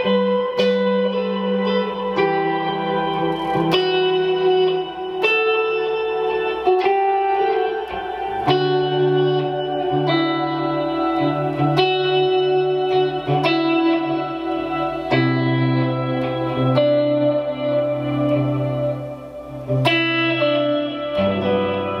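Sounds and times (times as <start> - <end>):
clean electric guitar chords: 0.0 - 22.0.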